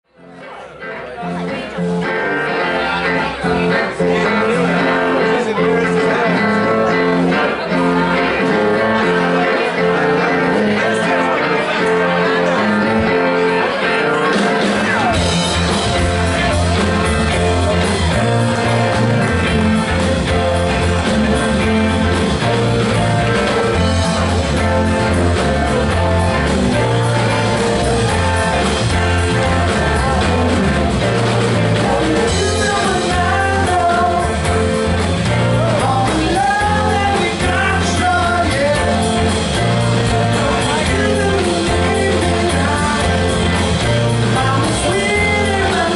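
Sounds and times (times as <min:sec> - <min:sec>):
rock band playing: 0:00.1 - 0:45.9
man singing: 0:02.5 - 0:22.6, 0:23.2 - 0:45.9.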